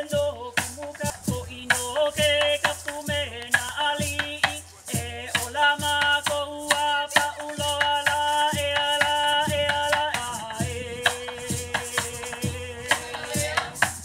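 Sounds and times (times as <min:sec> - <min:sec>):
gourd drum beat: 0:00.0 - 0:14.0.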